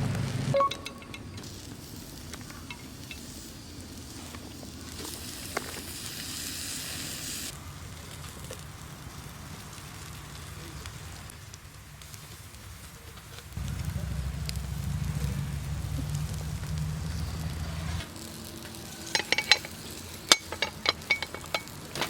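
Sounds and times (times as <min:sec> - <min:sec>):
campfire crackles: 0:00.0 - 0:22.0
food sizzling in a pan: 0:00.5 - 0:22.0.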